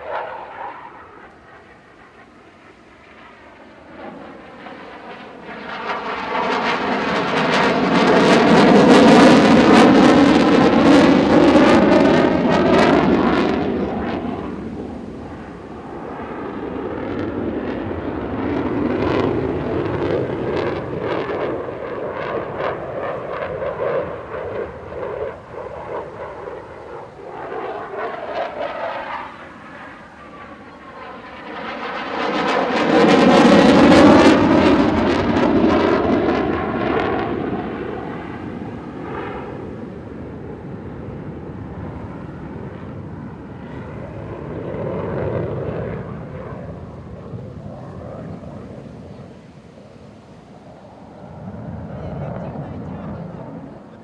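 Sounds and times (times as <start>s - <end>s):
fighter jet afterburner roar: 0.0s - 54.0s
jet passing whoosh: 0.0s - 54.0s.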